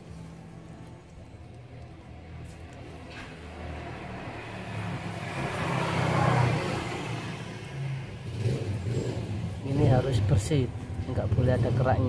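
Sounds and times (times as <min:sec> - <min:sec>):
vehicle engine passing by: 0:02.1 - 0:12.0.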